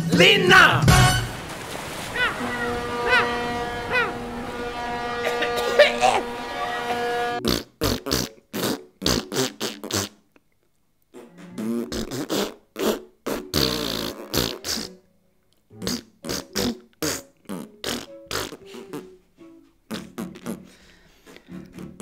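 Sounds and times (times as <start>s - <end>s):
tune of pitched fart sounds: 0.9s - 1.4s, 2.1s - 10.2s, 11.1s - 15.1s, 15.7s - 19.2s, 19.9s - 22.0s.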